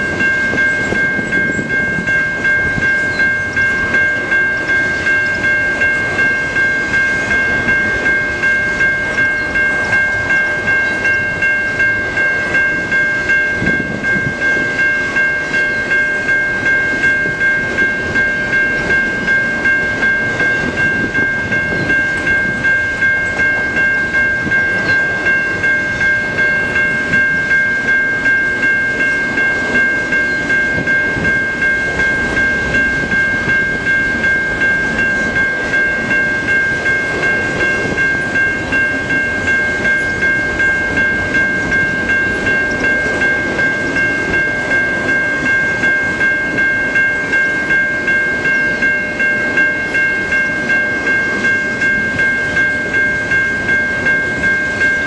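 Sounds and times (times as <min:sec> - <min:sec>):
freight train rumble and clatter: 0:00.0 - 0:55.0
level crossing bell ringing: 0:00.0 - 0:55.0.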